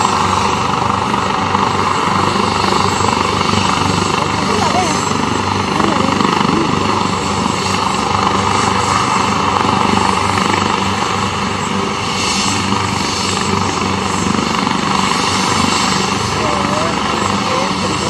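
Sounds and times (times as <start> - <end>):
helicopter rotor noise: 0.0 - 18.0
helicopter turbine whine: 0.0 - 18.0.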